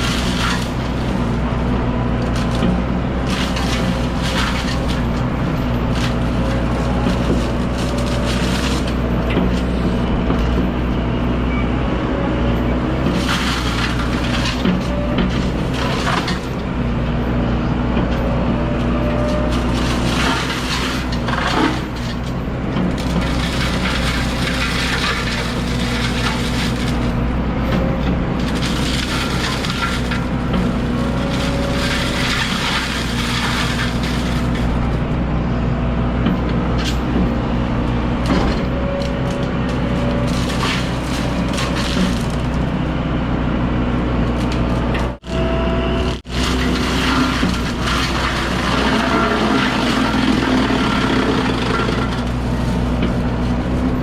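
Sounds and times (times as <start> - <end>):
wood crackling and snapping: 0.0 - 10.5, 12.9 - 16.9, 18.8 - 27.3, 28.3 - 35.2, 38.2 - 42.8, 44.2 - 54.0
mulcher head grinding brush: 0.0 - 10.8, 12.6 - 35.3, 36.4 - 43.1, 43.7 - 54.0
diesel machine running under load: 0.0 - 54.0.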